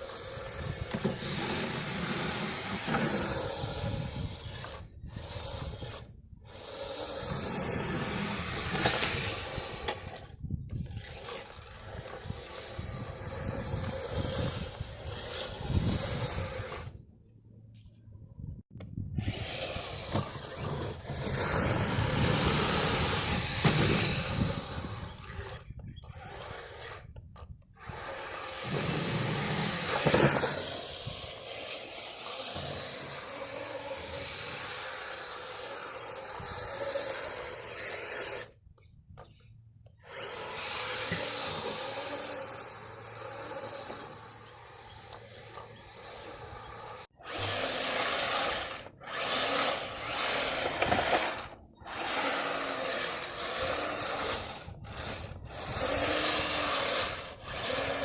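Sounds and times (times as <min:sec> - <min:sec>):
toy motor whine: 0:00.0 - 0:17.0, 0:19.2 - 0:58.0
tracks scraping over ground: 0:00.0 - 0:17.0, 0:19.2 - 0:58.0.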